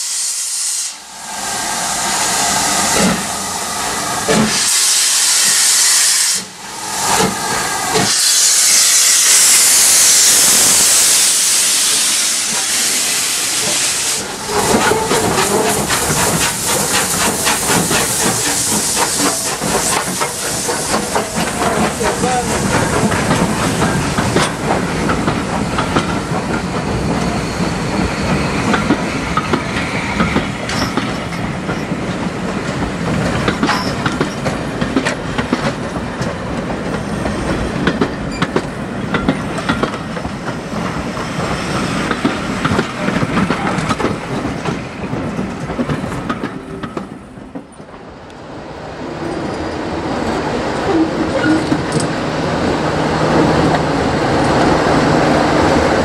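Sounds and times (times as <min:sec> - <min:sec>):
diesel locomotive engine: 0:00.0 - 0:56.0.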